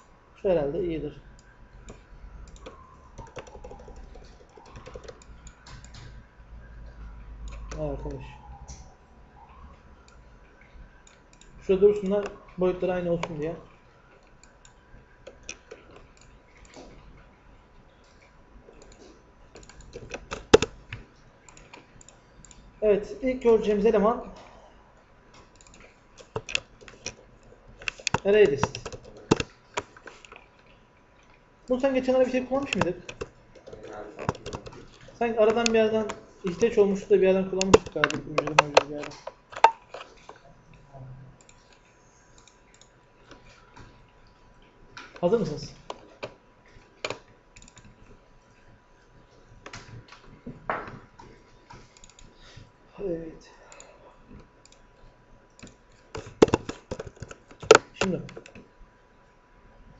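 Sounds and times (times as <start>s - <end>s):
keyboard clicks: 1.3s - 6.3s, 6.9s - 22.8s, 25.3s - 40.8s, 41.4s - 44.0s, 44.6s - 48.6s, 49.6s - 52.6s, 55.5s - 58.7s
computer mouse clicks: 1.3s - 12.5s, 13.2s - 22.8s, 25.3s - 36.9s, 37.5s - 48.7s, 51.2s - 52.7s, 53.7s - 54.9s, 55.5s - 58.7s.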